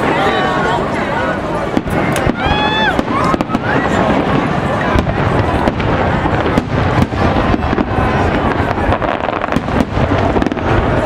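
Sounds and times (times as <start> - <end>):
fireworks crackling: 0.0 - 11.0
firework shell bursts and booms: 1.8 - 11.0.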